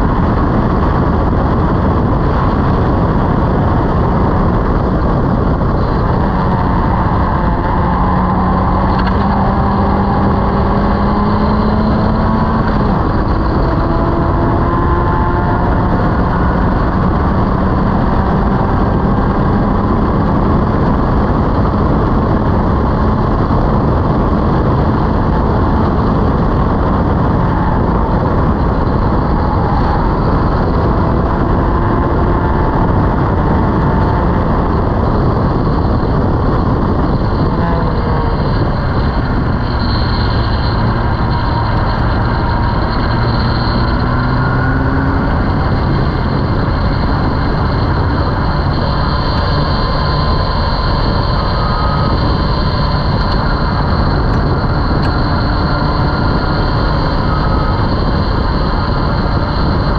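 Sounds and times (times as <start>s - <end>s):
race car engine pulling hard: 0.0s - 59.9s
wind and road noise: 0.0s - 59.9s.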